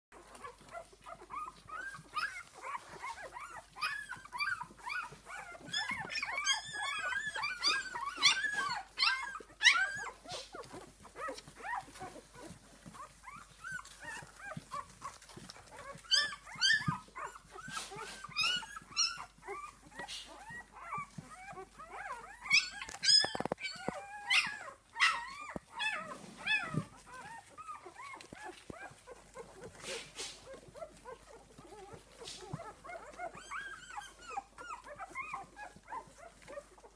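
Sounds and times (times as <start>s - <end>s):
puppies squeaking and whimpering: 0.2s - 36.9s.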